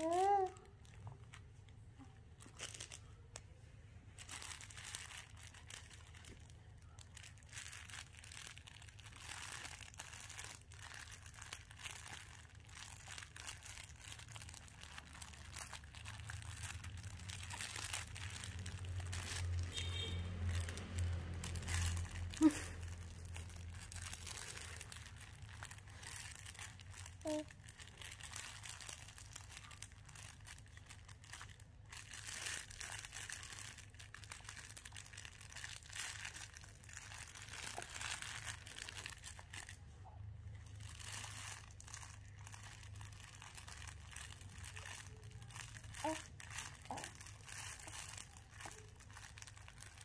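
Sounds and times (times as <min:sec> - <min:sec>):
crinkle paper crackling: 0:00.0 - 0:50.0.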